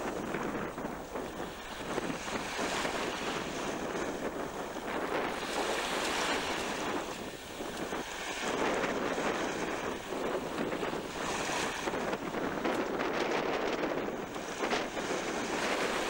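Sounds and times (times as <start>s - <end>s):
sea waves washing: 0.0s - 16.0s
wind buffeting microphone: 0.0s - 16.0s.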